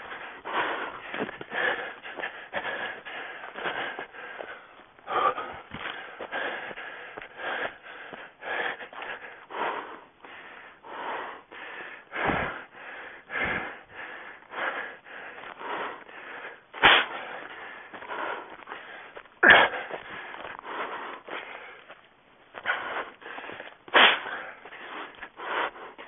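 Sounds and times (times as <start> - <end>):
hard wheezing breathing: 0.0 - 26.0.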